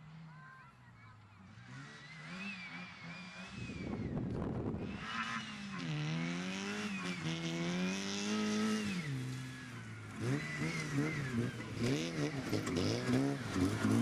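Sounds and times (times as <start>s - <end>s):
rally car engine revving: 1.4s - 14.0s.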